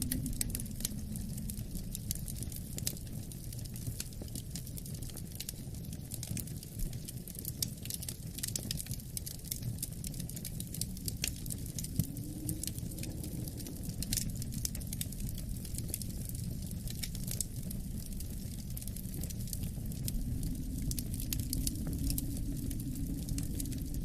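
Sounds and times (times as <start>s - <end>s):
low rumble of wind: 0.0s - 24.0s
wood fire crackling: 0.0s - 24.0s.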